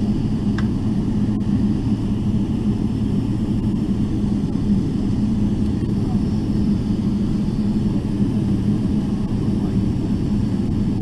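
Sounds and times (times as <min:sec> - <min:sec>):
airliner cabin rumble and hum: 0:00.0 - 0:11.0.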